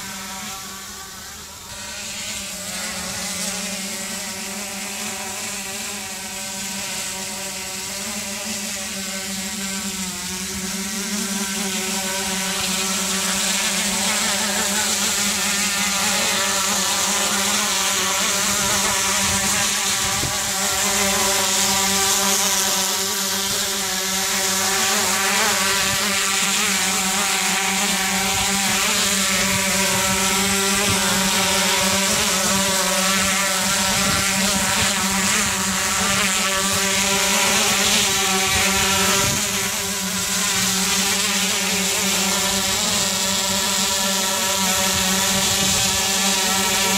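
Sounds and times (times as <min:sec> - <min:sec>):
drone propellers buzzing hum: 0:00.0 - 0:46.9.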